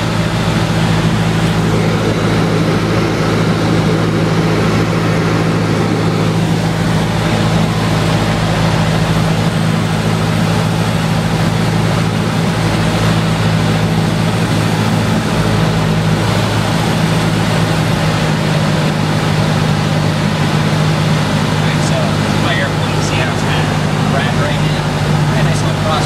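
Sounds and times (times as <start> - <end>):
airplane engine droning: 0.0 - 26.0.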